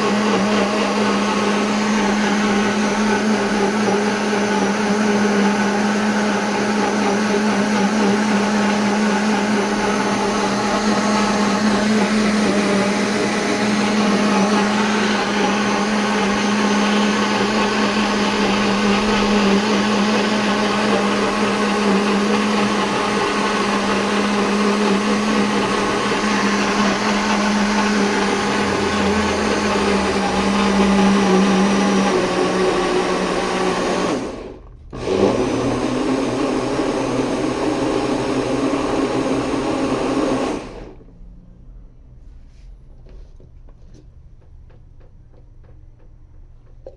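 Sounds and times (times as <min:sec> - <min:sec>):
blender motor whirring: 0:00.0 - 0:41.1.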